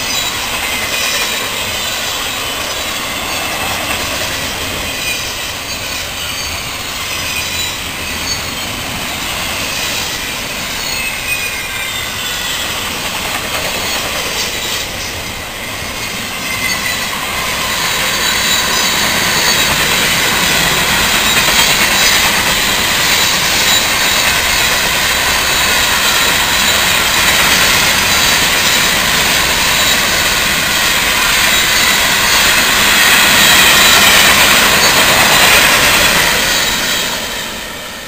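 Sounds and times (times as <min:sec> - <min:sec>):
train wheels rushing on rails: 0:00.0 - 0:38.0.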